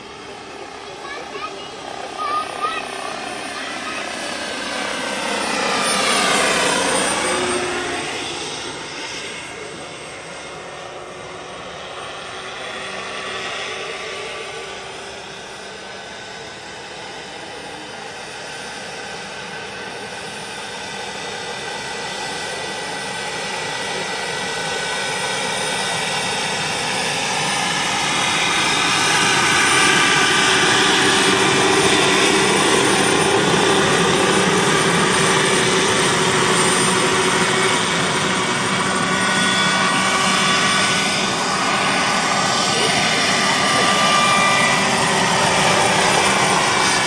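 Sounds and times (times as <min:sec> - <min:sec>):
model helicopter motor whine: 0:00.0 - 0:47.0.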